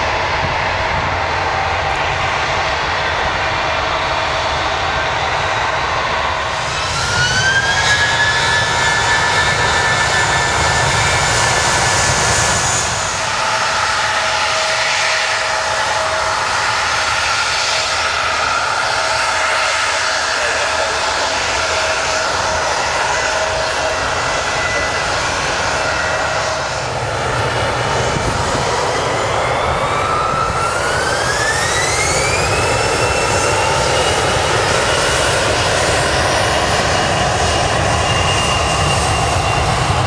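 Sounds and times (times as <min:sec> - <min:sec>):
jet engines whining at taxi power: 0:00.0 - 0:40.0
passing jet whine: 0:00.0 - 0:40.0.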